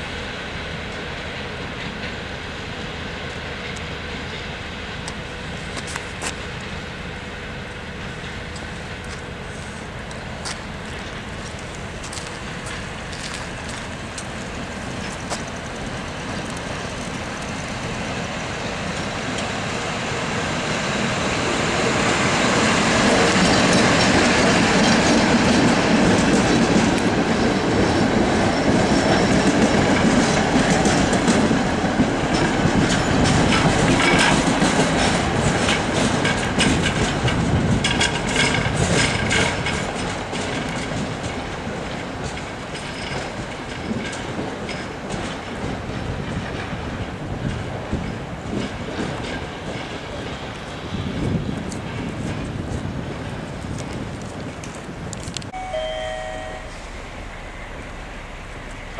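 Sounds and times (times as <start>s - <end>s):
train wheels clattering on rails: 0.0s - 55.6s.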